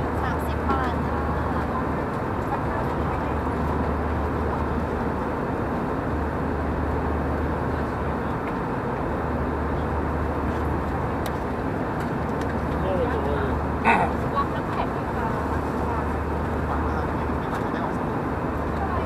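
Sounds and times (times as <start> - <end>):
airliner cabin engine noise: 0.0 - 19.0.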